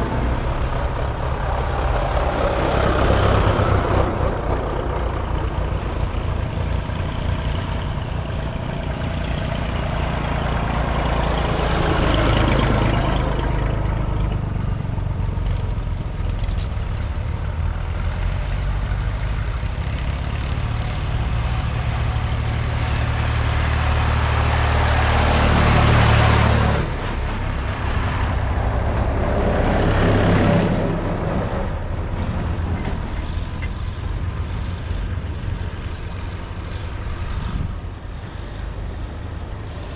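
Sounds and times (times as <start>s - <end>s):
tractor engines passing: 0.0s - 39.9s.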